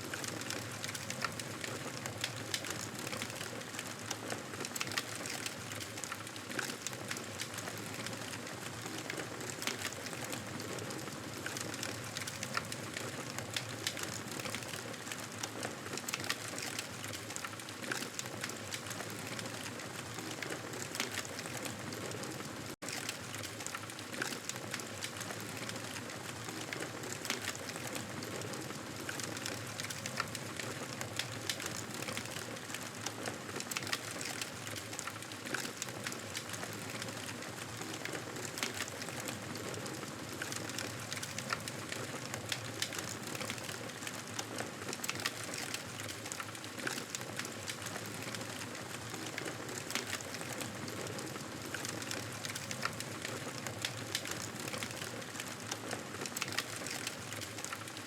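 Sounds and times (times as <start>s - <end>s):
fire crackling: 0.1s - 58.0s.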